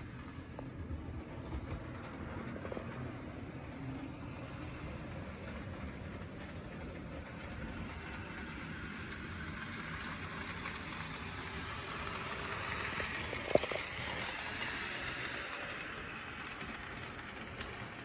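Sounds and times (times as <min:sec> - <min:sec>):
model locomotive motor whirring: 0:00.0 - 0:18.0
wheels rolling on rails: 0:00.0 - 0:18.0.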